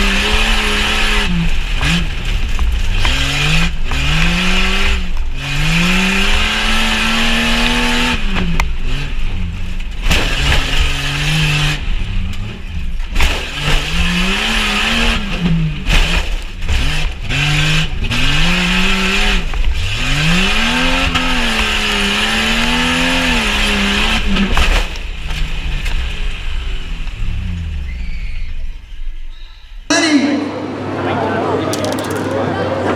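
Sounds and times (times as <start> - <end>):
engine revving: 0.0 - 27.6.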